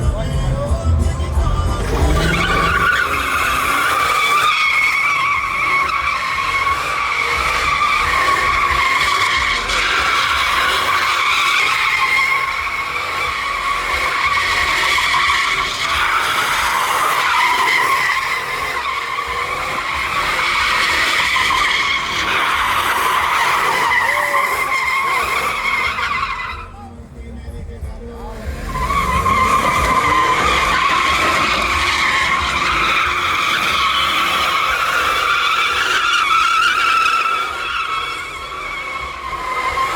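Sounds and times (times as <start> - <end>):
truck tyres squealing: 0.0 - 39.9.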